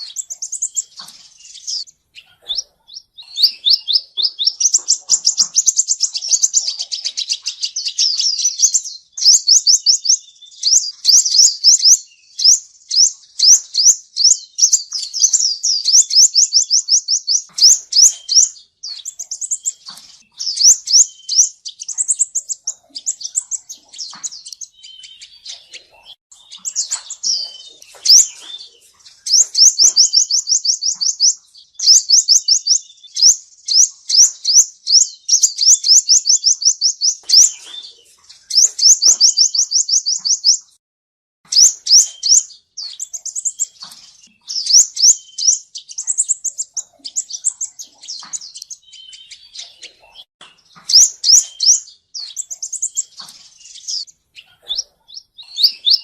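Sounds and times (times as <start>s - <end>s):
bird trilling high chirps: 0.0s - 40.8s, 41.5s - 56.0s.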